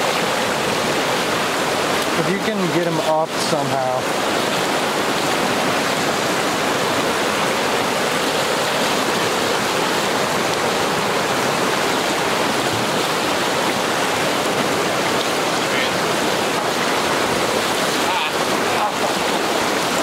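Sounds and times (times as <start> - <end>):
river water rushing over rapids: 0.0 - 20.0.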